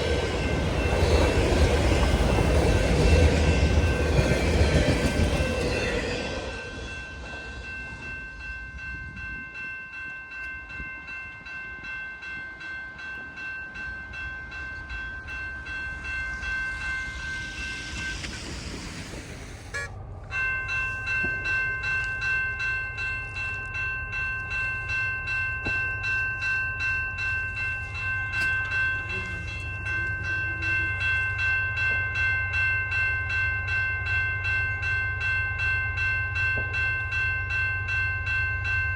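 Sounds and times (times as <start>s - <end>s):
freight train rumble: 0.0s - 38.9s
high-pitched ringing tone: 0.0s - 38.9s.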